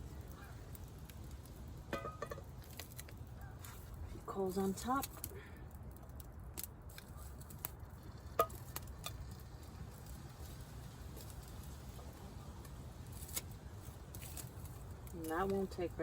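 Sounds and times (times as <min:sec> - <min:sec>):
coals tapping in iron pan: 0:00.0 - 0:16.0.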